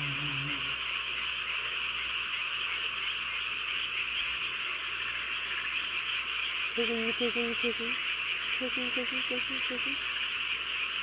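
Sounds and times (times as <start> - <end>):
chorus of frogs calling: 0.0 - 11.0.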